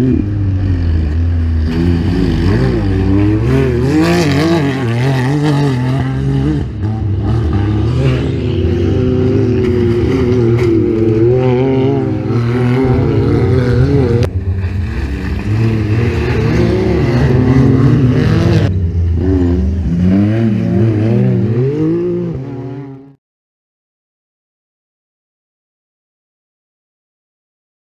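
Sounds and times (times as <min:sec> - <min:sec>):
buggy engines revving: 0:00.0 - 0:23.2.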